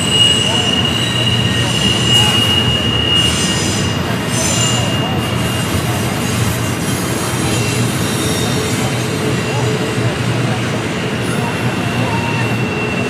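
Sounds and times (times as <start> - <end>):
low rumble of train: 0.0 - 13.0
steel wheels squealing on rails: 0.0 - 13.0.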